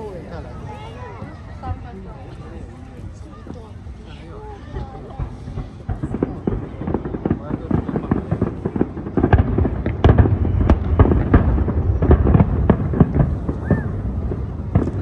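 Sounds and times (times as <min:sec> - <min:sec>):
firework bangs and crackles: 0:00.0 - 0:15.0
continuous low rumble: 0:00.1 - 0:15.0.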